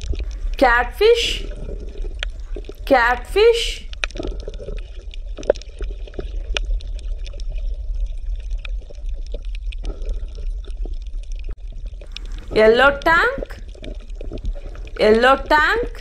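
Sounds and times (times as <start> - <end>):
deep rumble: 0.0 - 16.0
water bubbling and gurgling: 0.0 - 16.0.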